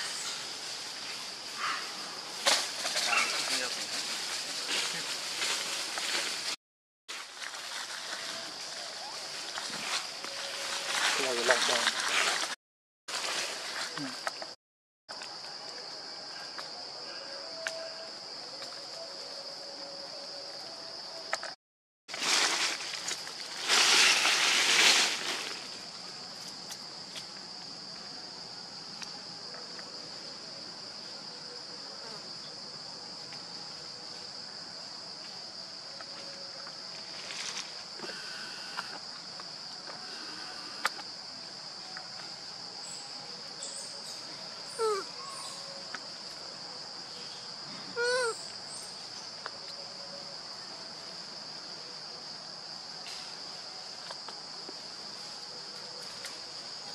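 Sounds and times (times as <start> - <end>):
insects droning: 0.0 - 56.9.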